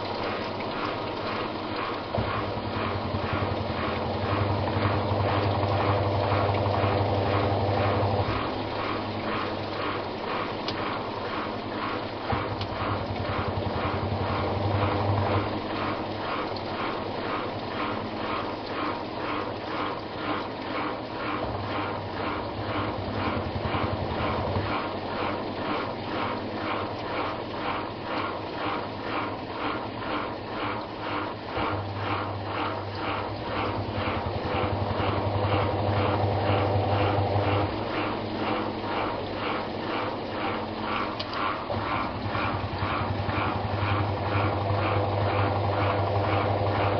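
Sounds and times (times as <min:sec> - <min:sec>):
motor humming: 0:00.0 - 0:46.9
washing machine agitating: 0:00.0 - 0:46.9.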